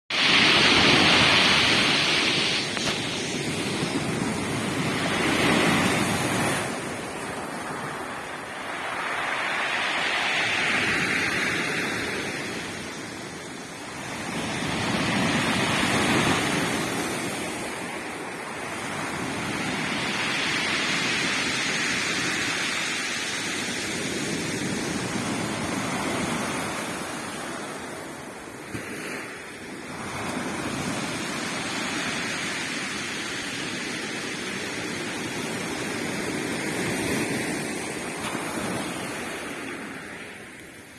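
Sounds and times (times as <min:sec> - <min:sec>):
waves breaking on shore: 0:00.1 - 0:40.9.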